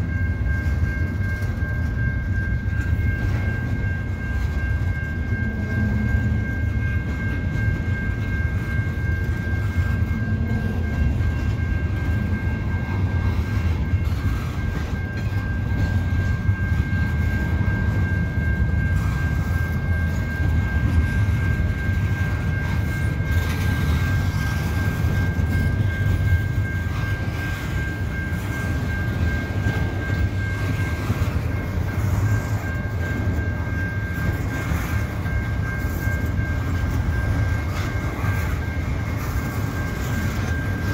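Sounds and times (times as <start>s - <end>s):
freight train wheels rumbling on rail: 0.0s - 40.9s
steady high-pitched tone: 0.0s - 40.9s.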